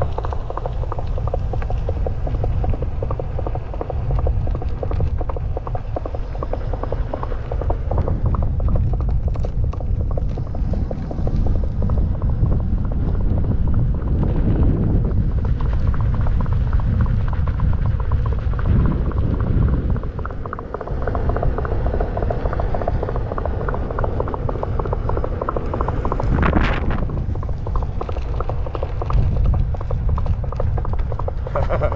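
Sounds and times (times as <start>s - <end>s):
horse hoofbeats through speakers: 0.0s - 31.9s
wind rumble on microphone: 0.0s - 31.9s.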